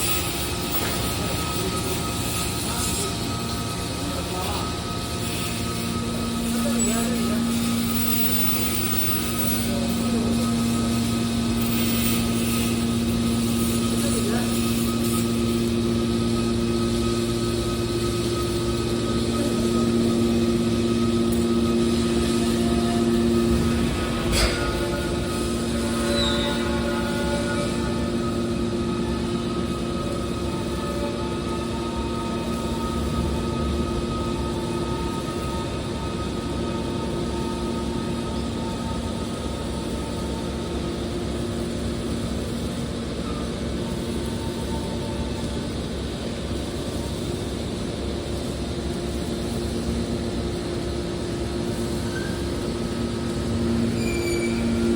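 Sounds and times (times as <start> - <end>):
hydraulic power unit humming: 0.0 - 54.9.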